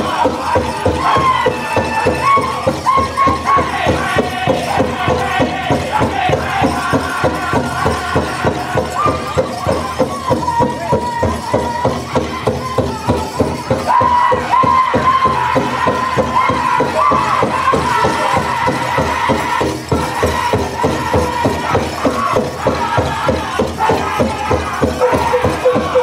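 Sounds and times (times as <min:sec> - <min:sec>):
big drum fast beat: 0:00.0 - 0:26.0
singers high-pitched chant: 0:00.0 - 0:26.0.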